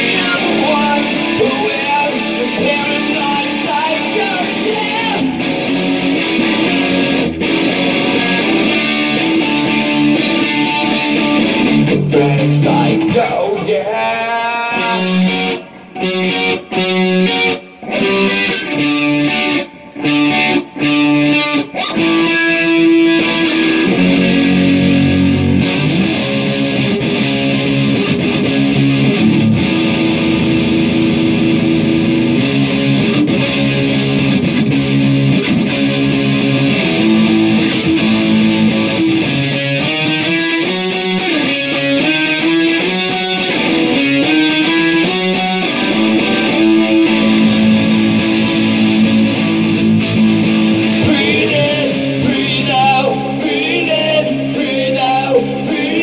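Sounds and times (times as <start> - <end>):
guitar playing: 0.0 - 56.0.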